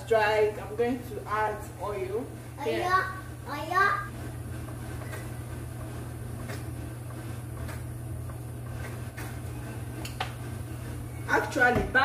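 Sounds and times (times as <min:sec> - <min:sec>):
kitchen room hum: 0:00.0 - 0:12.0.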